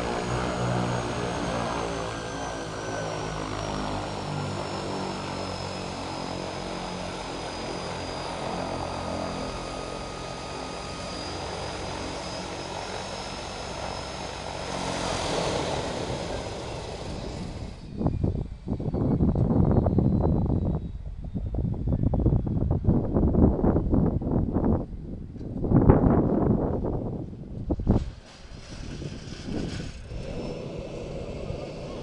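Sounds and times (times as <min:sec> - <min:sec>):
turboprop engine droning: 0:00.0 - 0:32.0.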